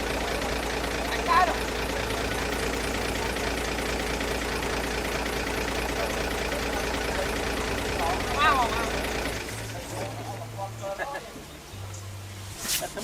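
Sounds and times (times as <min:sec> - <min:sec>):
heavy machinery engine running: 0:00.0 - 0:12.5.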